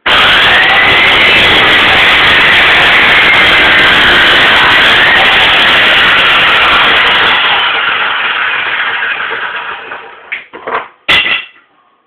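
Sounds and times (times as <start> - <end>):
power tool running: 0.0 - 10.3.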